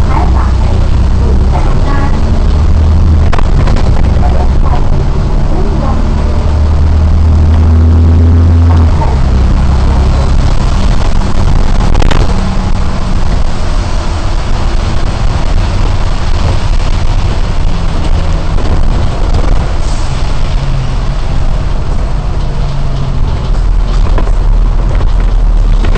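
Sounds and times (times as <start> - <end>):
tyres hissing on wet road: 0.0 - 23.8
bus engine drone: 0.0 - 25.9
rain: 0.0 - 25.9.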